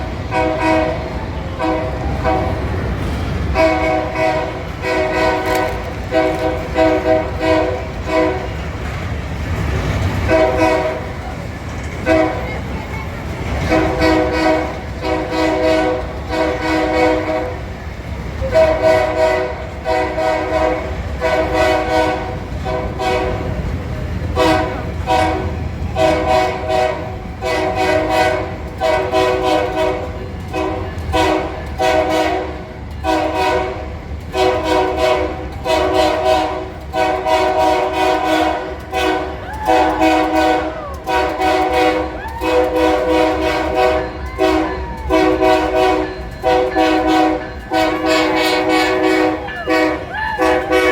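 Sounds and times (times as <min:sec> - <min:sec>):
locomotive air horn blasts: 0:00.0 - 0:02.8, 0:03.4 - 0:08.8, 0:10.1 - 0:11.3, 0:12.0 - 0:12.7, 0:13.5 - 0:17.8, 0:18.4 - 0:23.6, 0:24.3 - 0:50.9
low rumble of train: 0:00.0 - 0:50.9.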